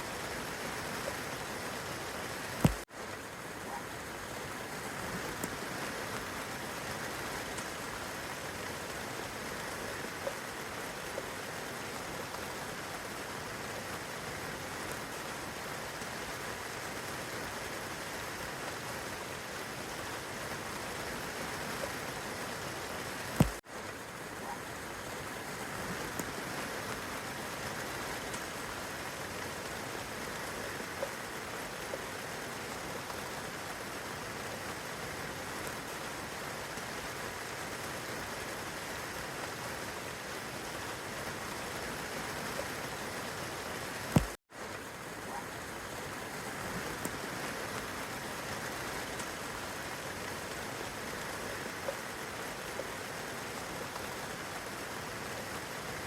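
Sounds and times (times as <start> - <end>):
rain on leaves and grass: 0.0 - 56.0.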